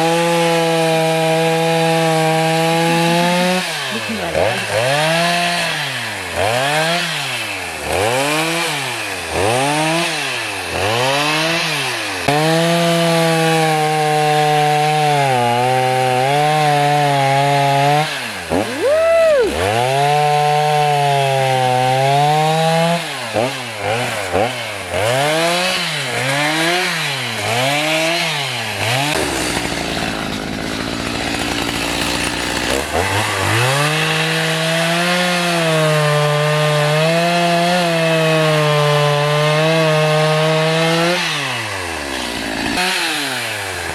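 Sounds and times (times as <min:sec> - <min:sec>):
chainsaw cutting wood: 0:00.0 - 0:43.9
chainsaw engine revving: 0:00.0 - 0:43.9.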